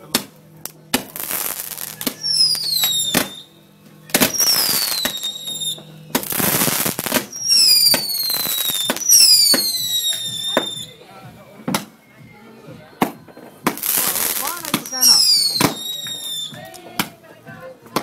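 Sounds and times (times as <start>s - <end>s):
fireworks sharp cracks: 0.0s - 11.0s, 13.0s - 18.0s
fireworks hissing bursts: 0.0s - 11.5s, 13.0s - 18.0s
whistling fireworks: 1.0s - 11.1s, 12.8s - 17.2s.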